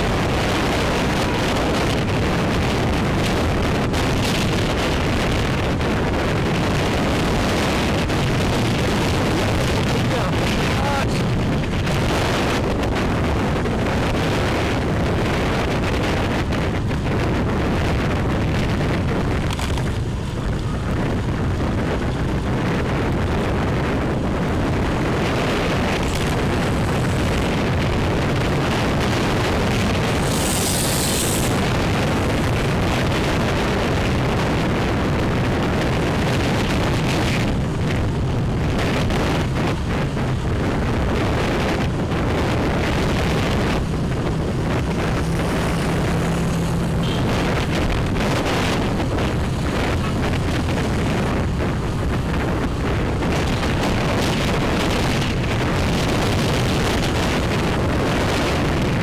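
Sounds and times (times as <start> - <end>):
motorbike road noise: 0.0 - 59.0
wind buffeting microphone: 0.0 - 59.0.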